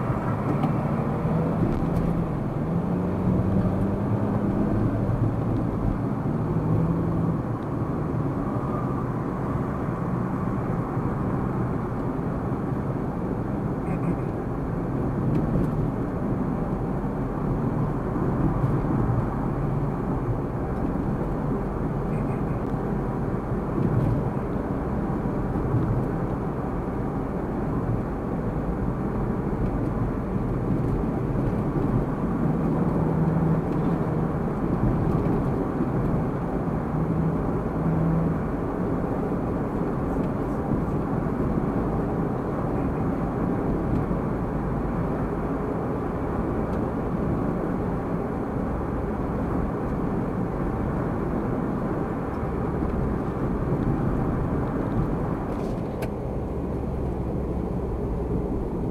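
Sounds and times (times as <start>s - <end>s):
car engine and road noise rumble: 0.0s - 58.9s.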